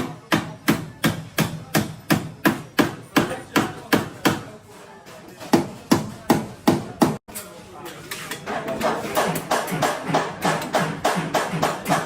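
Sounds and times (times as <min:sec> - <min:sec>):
hammer on sheet metal: 0:00.0 - 0:04.6, 0:05.4 - 0:07.2, 0:08.2 - 0:12.0.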